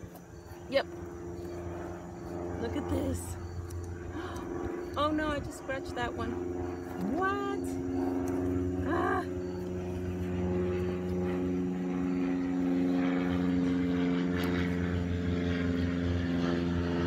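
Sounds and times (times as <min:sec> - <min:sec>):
steady engine drone: 0:00.0 - 0:17.0.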